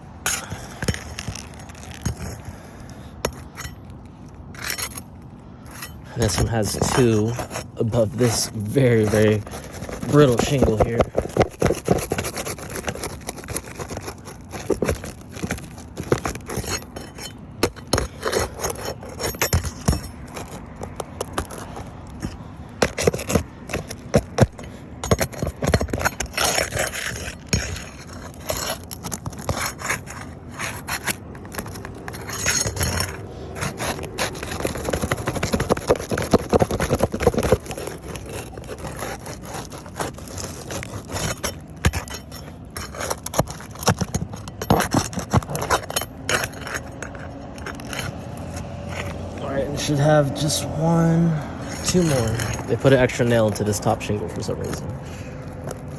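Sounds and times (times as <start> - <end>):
scraping roof shingles: 0.0 - 55.9.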